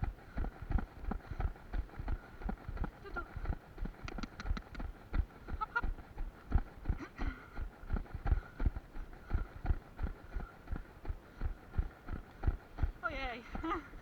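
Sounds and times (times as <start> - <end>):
running footsteps on trail: 0.0 - 14.0.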